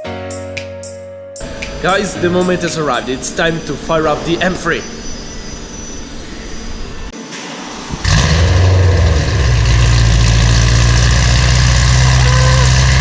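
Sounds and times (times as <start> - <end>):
car engine starting and idling: 1.4 - 13.0.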